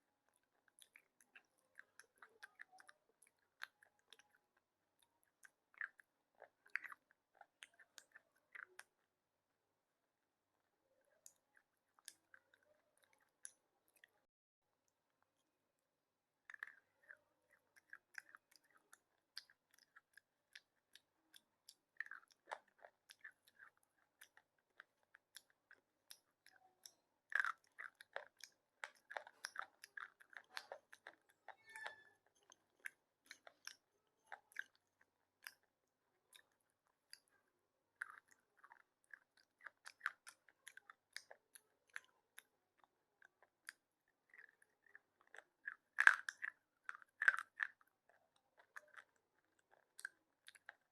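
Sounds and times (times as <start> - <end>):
slate pencil being chewed: 0.0 - 9.1, 10.8 - 14.2, 16.4 - 50.9.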